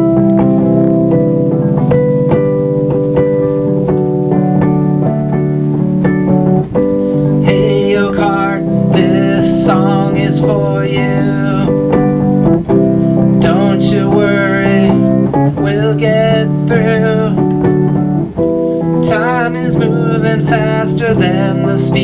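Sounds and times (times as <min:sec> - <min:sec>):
plucked notes: 0:00.0 - 0:22.0
sustained keyboard chords: 0:00.0 - 0:22.0.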